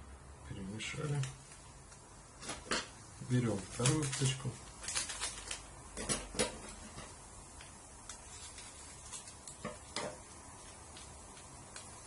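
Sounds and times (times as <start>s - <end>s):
packet being handled and opened: 1.0s - 12.0s.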